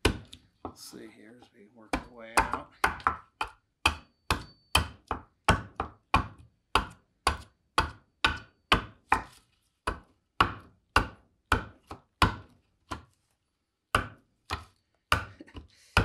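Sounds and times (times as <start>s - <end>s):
adze chopping wood: 0.0s - 0.4s, 1.9s - 13.1s, 13.9s - 15.3s.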